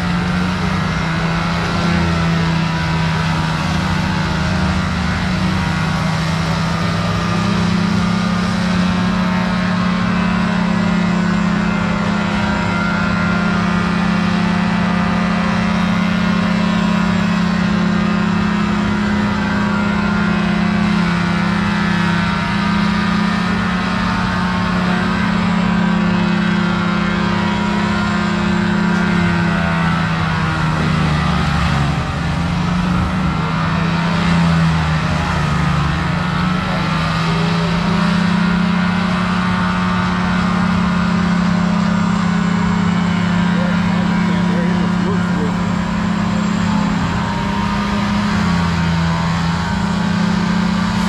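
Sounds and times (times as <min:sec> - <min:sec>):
diesel machinery droning: 0:00.0 - 0:51.0.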